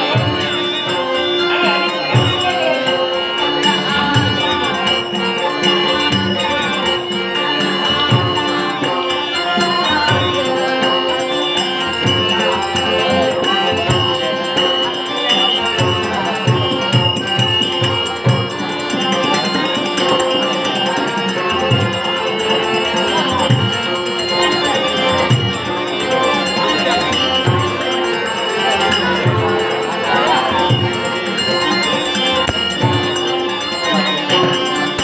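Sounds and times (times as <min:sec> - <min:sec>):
hand cymbals jingling: 0:00.0 - 0:35.0
harmonium chords: 0:00.0 - 0:35.0.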